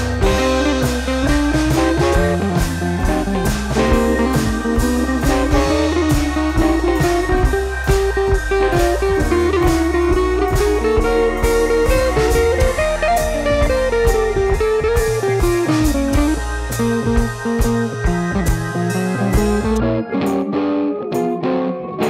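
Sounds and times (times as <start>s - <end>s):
steady drum beat: 0.0s - 19.8s
bass: 0.0s - 22.0s
bluesy electric guitar melody: 0.0s - 22.0s.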